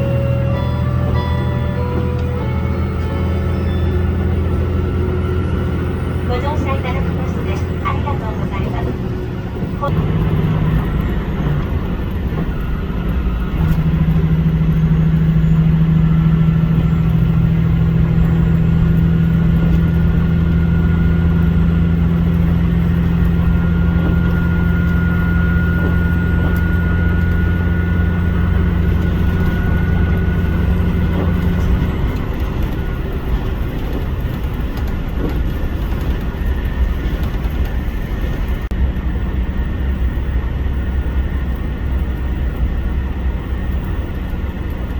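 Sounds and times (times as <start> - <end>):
faint rising whine: 0.0 - 44.3
diesel railcar engine drone: 0.0 - 44.9
train running noise: 0.0 - 44.9.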